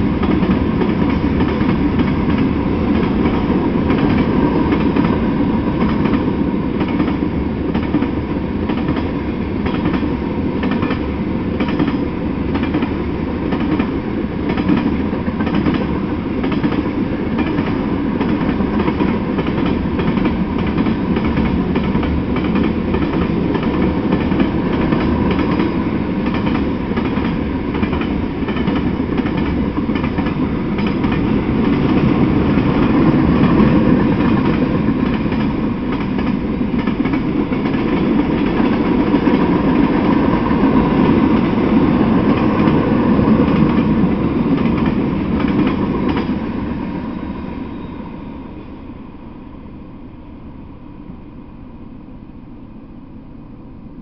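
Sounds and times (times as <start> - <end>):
freight cars rumbling on rails: 0.0 - 49.4.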